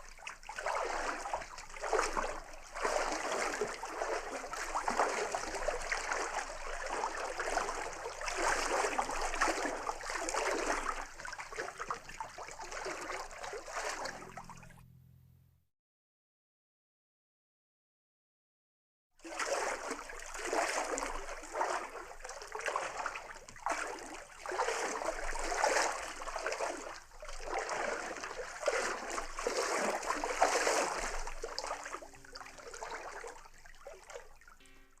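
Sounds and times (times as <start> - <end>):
water lapping and splashing: 0.0 - 14.8, 19.2 - 34.6.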